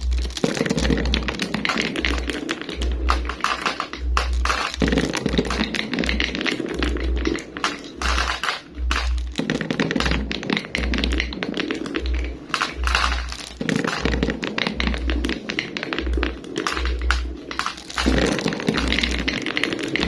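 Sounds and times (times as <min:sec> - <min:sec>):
background music with bass beat: 0:00.0 - 0:20.0
marbles rattling along track: 0:00.0 - 0:20.0.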